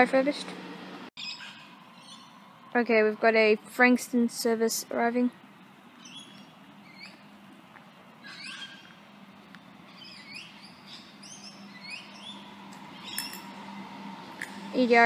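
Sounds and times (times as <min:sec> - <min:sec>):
electric train hum: 0:00.0 - 0:15.0
birds chirping: 0:01.2 - 0:15.0.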